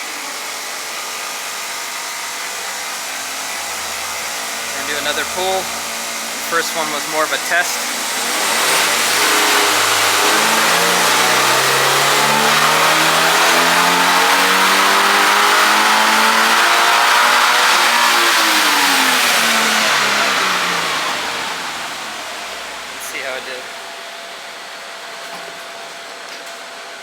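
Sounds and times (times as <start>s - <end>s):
car engine revving at full throttle: 1.2s - 23.8s.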